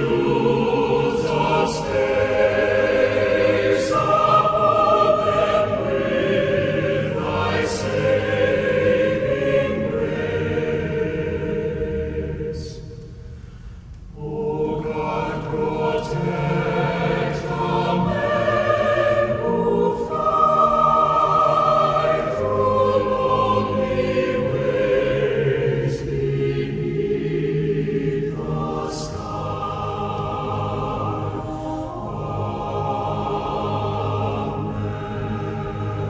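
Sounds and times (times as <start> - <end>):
choir singing held notes: 0.0 - 13.2, 14.1 - 36.0.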